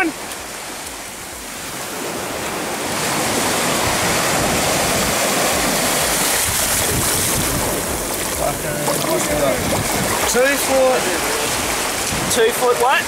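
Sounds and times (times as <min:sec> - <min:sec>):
surf washing in: 0:00.0 - 0:13.0.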